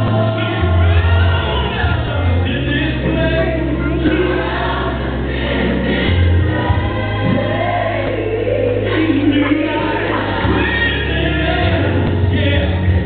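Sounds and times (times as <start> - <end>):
gospel choir singing: 0.0 - 13.0
sustained bass line: 0.0 - 13.0.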